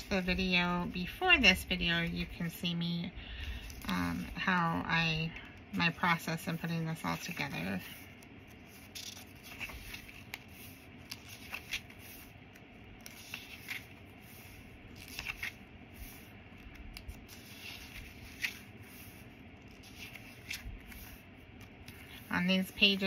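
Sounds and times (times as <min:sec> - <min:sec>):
paper pages rustling: 0:03.5 - 0:23.0.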